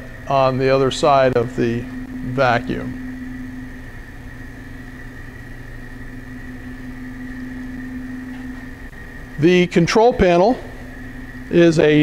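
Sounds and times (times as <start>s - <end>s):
low machinery drone: 0.0s - 12.0s
thin high whine: 0.0s - 12.0s.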